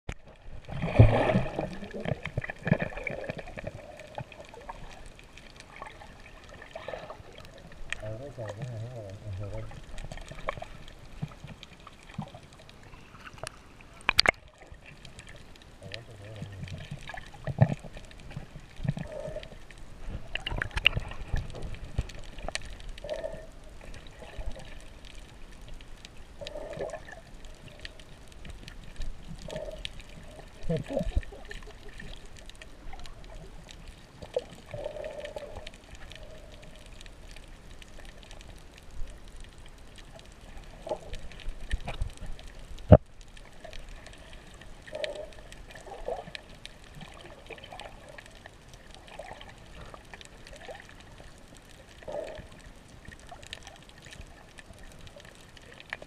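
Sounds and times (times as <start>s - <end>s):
muffled underwater gurgling: 0.1s - 13.1s, 14.0s - 25.4s, 26.2s - 28.2s, 29.1s - 37.6s, 40.3s - 51.2s, 51.8s - 53.5s
clicks and crackles: 0.1s - 56.0s.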